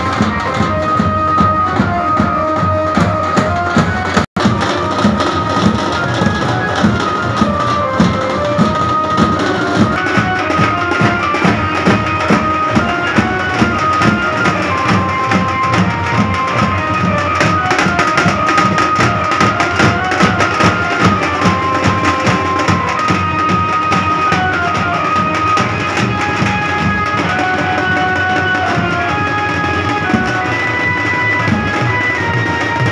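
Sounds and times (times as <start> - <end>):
barrel drums beating: 0.0 - 32.9
high melody line: 0.0 - 32.9.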